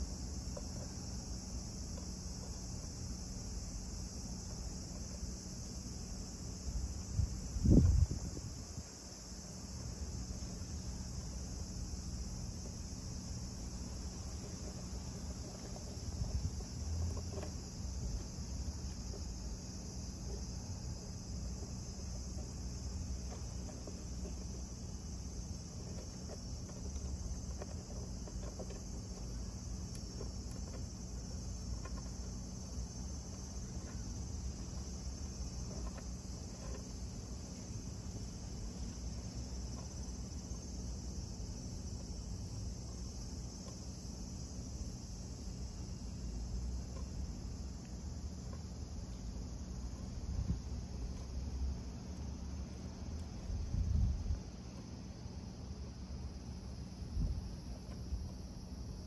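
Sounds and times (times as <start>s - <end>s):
high-pitched insect chorus: 0.0s - 59.0s
low steady rumble: 0.0s - 59.0s.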